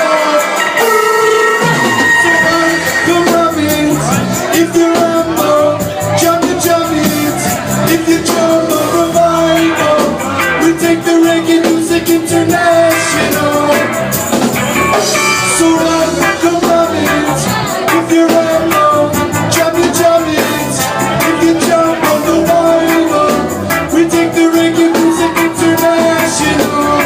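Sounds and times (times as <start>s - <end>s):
lead vocal singing: 0.0s - 27.0s
live reggae band: 0.0s - 27.0s.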